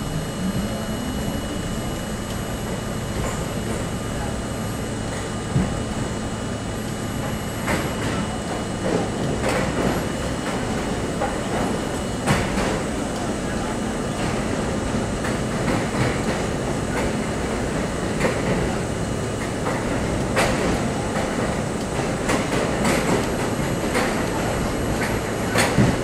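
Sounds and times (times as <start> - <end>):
subway train rumbling in tunnel: 0.0 - 26.0.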